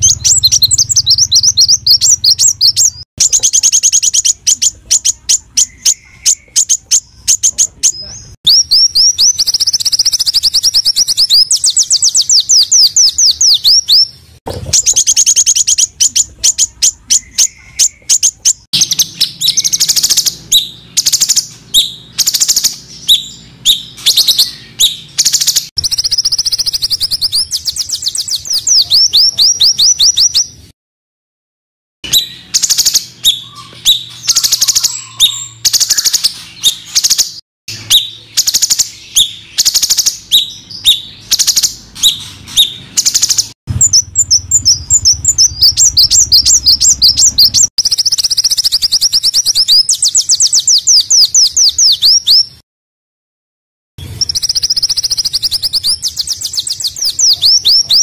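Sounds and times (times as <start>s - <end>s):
songbirds chirping rapidly: 0.0s - 30.7s, 32.0s - 52.6s, 54.0s - 58.0s.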